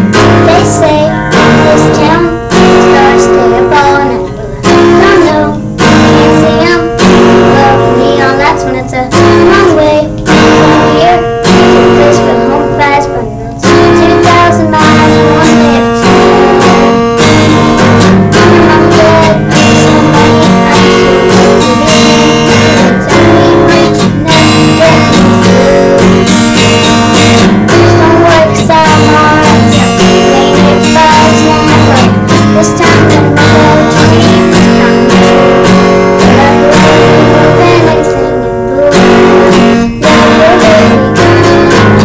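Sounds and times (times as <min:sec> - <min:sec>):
acoustic guitar strumming: 0:00.0 - 0:42.0.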